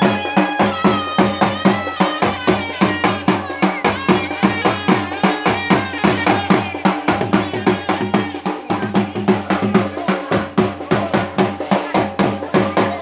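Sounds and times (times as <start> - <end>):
fast steady drum beat: 0.0 - 13.0.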